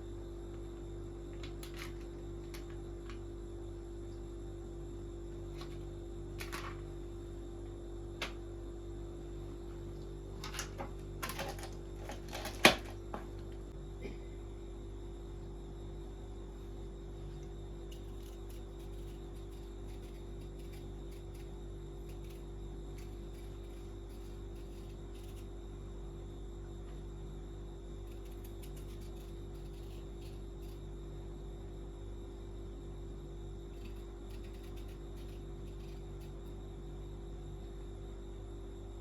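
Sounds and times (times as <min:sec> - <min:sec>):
steady electrical hum: 0:00.0 - 0:39.0.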